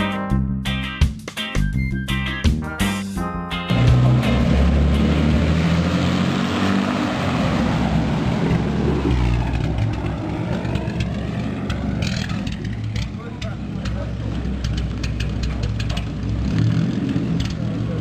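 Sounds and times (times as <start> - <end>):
racing car engine rumbling: 3.3 - 18.0.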